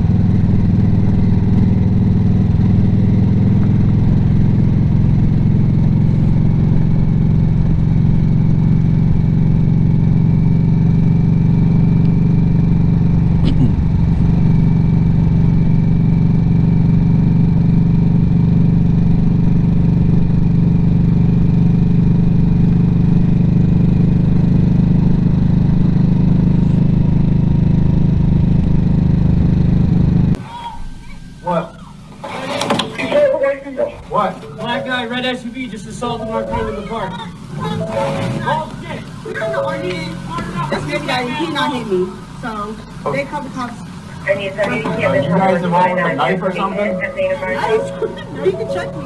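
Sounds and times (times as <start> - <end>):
motorcycle engine running: 0.0 - 30.4, 33.1 - 49.0.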